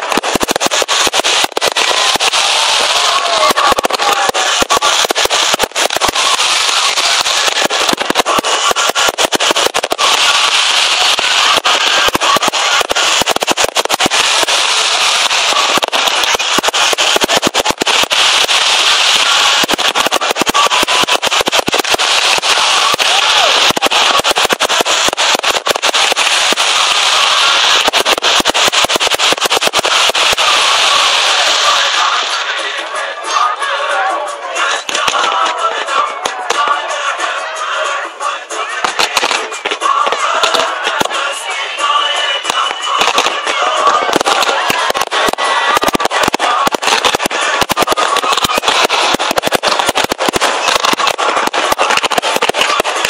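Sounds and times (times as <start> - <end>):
steady hiss: 0.0 - 32.8, 38.5 - 53.0
fireworks popping and crackling: 0.0 - 53.0.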